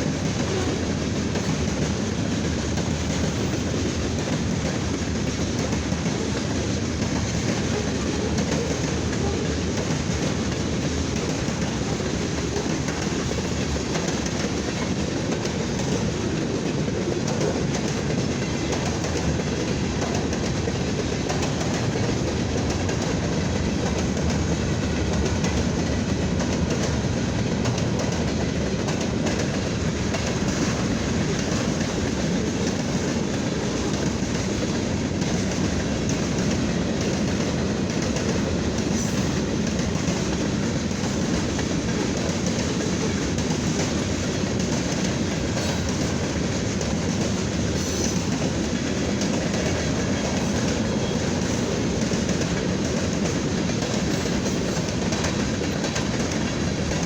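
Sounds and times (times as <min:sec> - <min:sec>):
clickety-clack over rail joints: 0:00.0 - 0:57.0
freight train wheels rumbling: 0:00.0 - 0:57.0.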